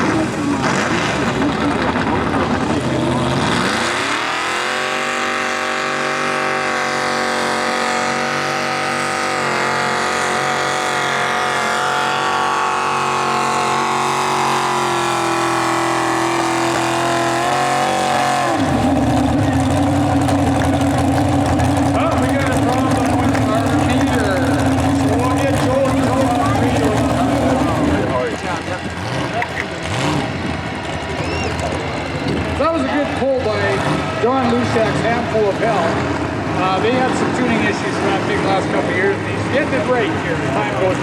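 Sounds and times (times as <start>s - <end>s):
tractor engine revving: 0.0s - 41.0s.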